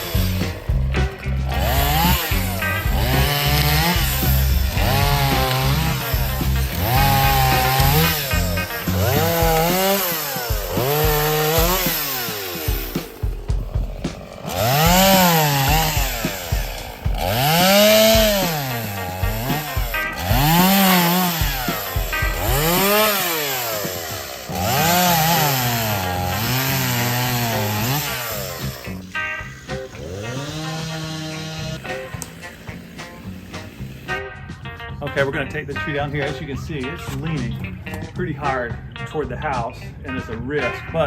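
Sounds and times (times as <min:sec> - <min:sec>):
chainsaw revving: 0:00.0 - 0:34.4.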